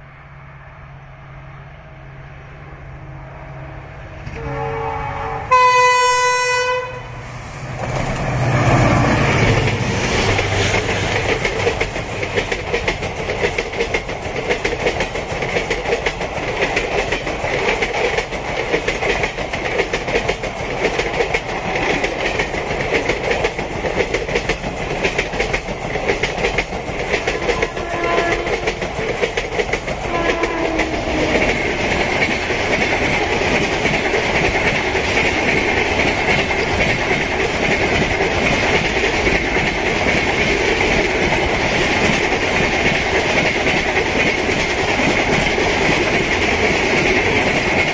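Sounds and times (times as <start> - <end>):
train wheels clattering over rail joints: 7.8 - 47.9.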